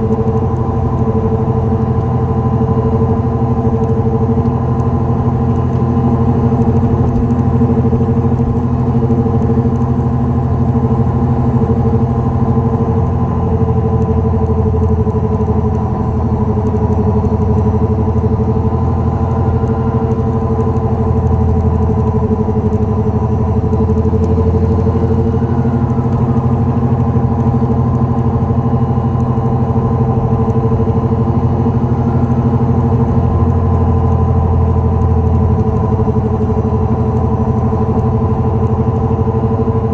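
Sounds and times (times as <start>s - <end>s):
car driving with low drone: 0.0s - 39.9s.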